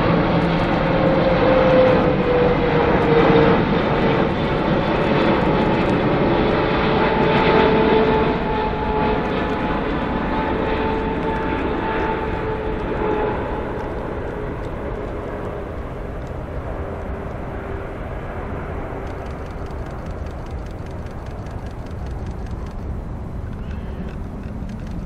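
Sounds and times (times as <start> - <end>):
jet engine rumble: 0.0 - 25.0.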